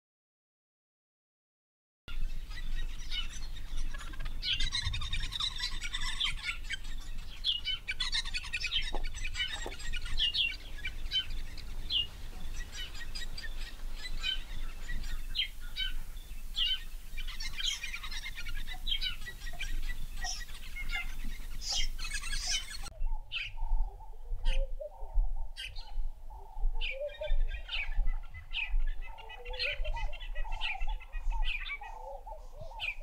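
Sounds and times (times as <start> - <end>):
birds chirping: 2.1 - 33.0.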